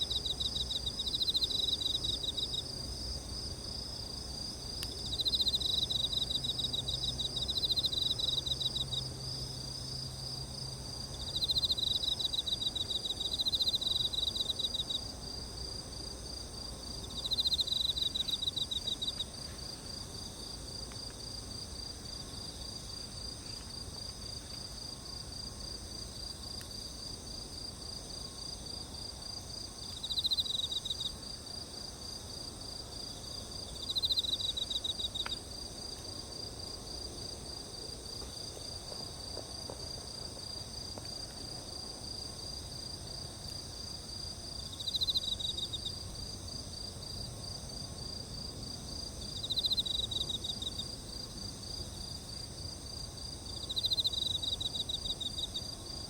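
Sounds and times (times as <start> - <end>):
insects chirping chorus: 0.0 - 56.0.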